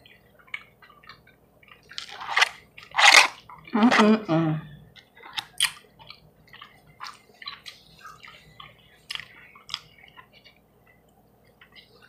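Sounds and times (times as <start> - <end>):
person chewing food: 0.0 - 3.7, 4.9 - 12.0.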